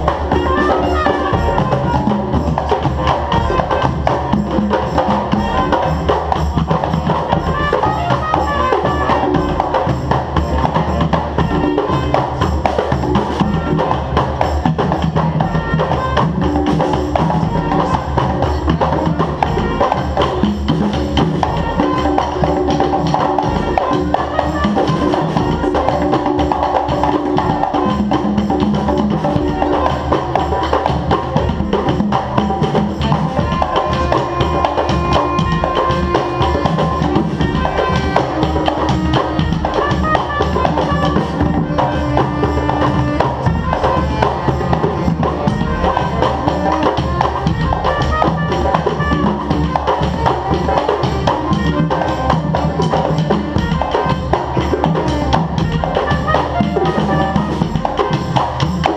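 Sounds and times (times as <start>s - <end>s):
held pitched notes: 0.0s - 58.7s
live band with drums and percussion: 0.0s - 58.9s.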